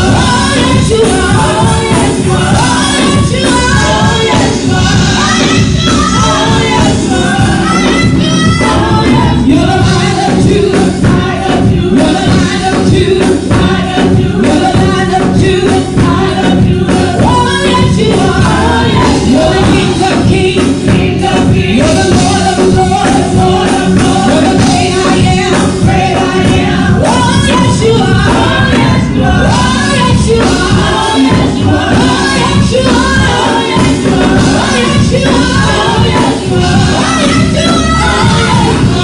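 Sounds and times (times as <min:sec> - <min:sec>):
band accompaniment: 0:00.0 - 0:39.0
choir singing gospel: 0:00.0 - 0:39.0.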